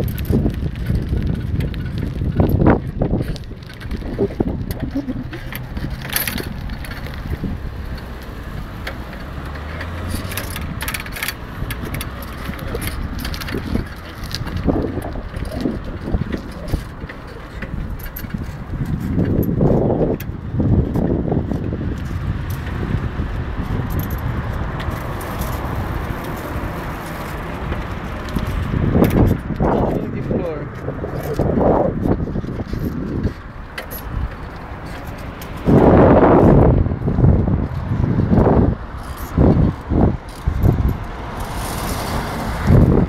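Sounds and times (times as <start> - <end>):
bicycle clicks and rattles: 0.0 - 43.0
road and wind rumble: 0.0 - 43.0.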